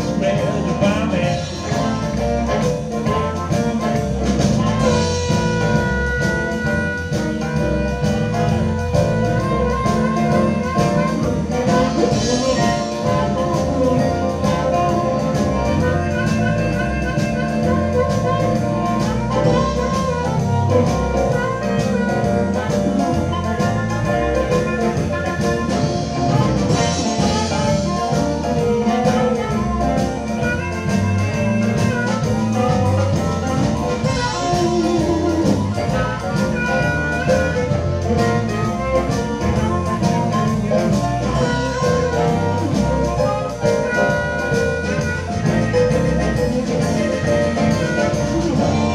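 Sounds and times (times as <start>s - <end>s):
blues band playing: 0.0s - 48.9s
harmonica solo: 0.0s - 48.9s.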